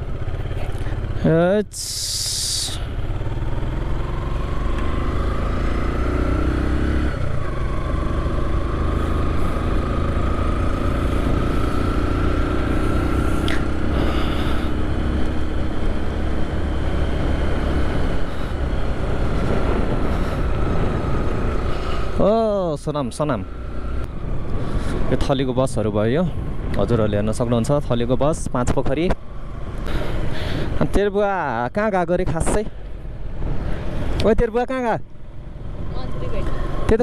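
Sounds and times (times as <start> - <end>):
motorcycle engine accelerating: 0.0 - 31.6.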